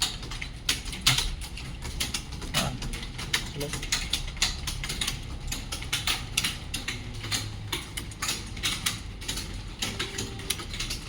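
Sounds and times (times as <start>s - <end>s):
many keyboards clattering: 0.0s - 11.0s.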